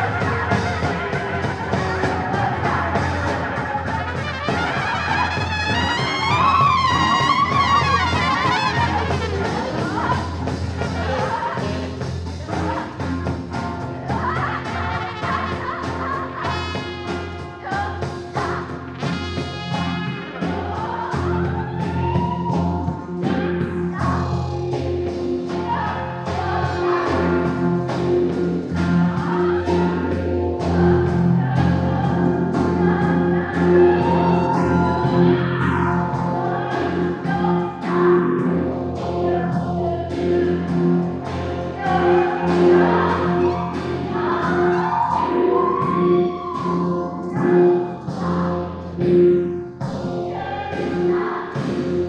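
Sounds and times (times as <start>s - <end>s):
improvised band with brass: 0.0s - 52.0s
percussion hits: 0.0s - 52.0s
person singing: 0.0s - 52.0s.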